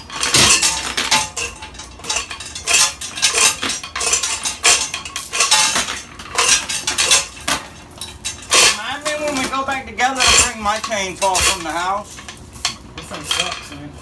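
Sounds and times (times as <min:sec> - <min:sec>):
metal parts clinking and rattling: 0:00.0 - 0:14.0.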